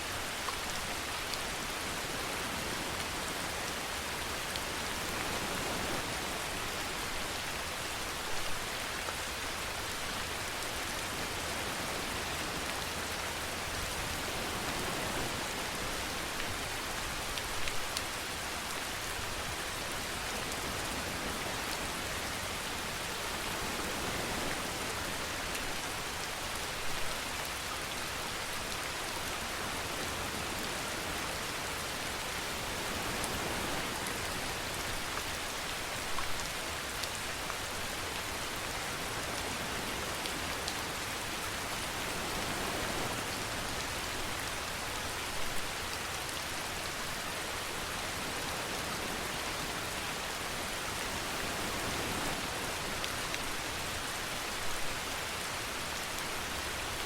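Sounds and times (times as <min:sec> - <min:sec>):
louder rain patters: 0:00.0 - 0:57.0
steady rain hissing: 0:00.0 - 0:57.0.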